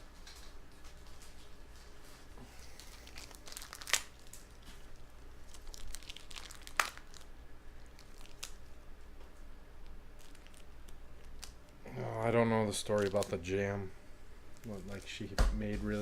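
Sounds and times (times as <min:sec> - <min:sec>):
plastic wrapping crinkling: 0:00.0 - 0:13.8.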